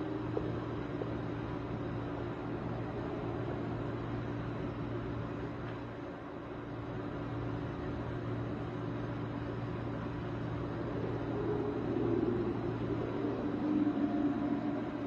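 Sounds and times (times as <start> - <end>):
low droning hum: 0.0 - 15.0
rumbling haze: 0.0 - 15.0.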